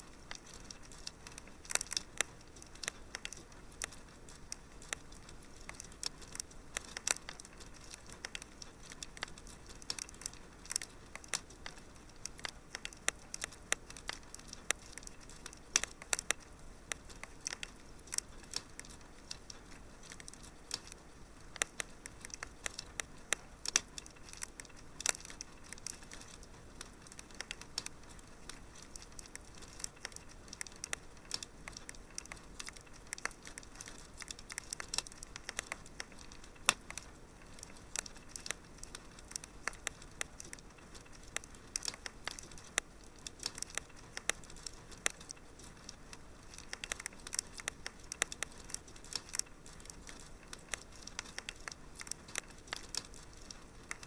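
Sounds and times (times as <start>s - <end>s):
soft steady hiss: 0.0s - 54.0s
wood fire crackling: 0.0s - 54.0s.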